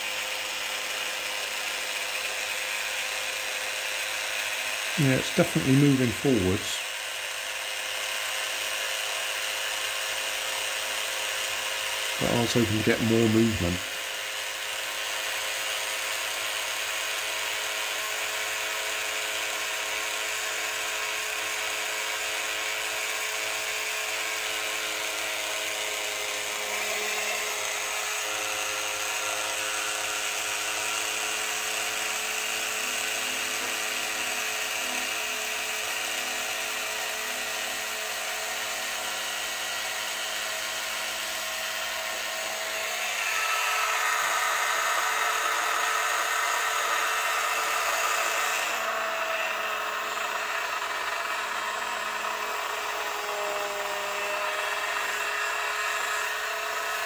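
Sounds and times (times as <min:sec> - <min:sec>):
small electric motor buzzing whine: 0:00.0 - 0:57.0.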